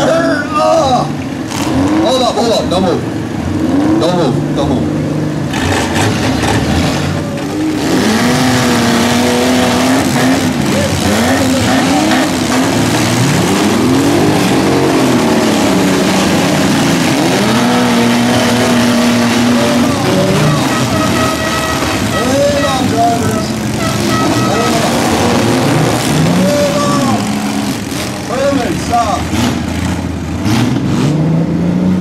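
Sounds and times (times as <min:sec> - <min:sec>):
truck engines revving hard: 0:00.0 - 0:32.0.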